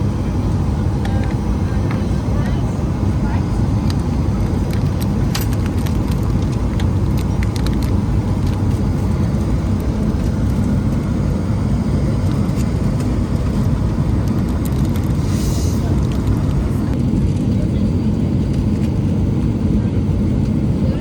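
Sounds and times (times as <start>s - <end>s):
airliner cabin roar: 0.0s - 21.0s.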